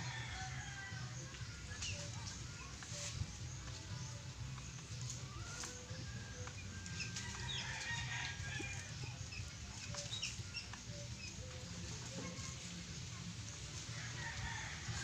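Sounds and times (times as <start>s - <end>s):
chickens clucking: 1.2s - 15.0s.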